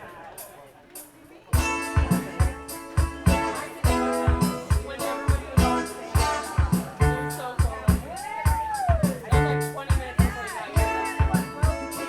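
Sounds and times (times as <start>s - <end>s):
kick drum beat: 1.6s - 11.9s
rock band playing: 1.6s - 12.0s.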